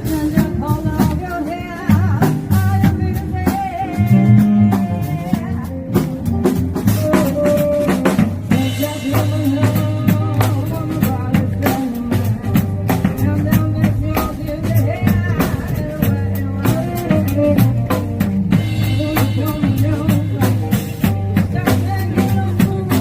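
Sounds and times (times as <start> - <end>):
pop music with drum beat: 0.0 - 23.0.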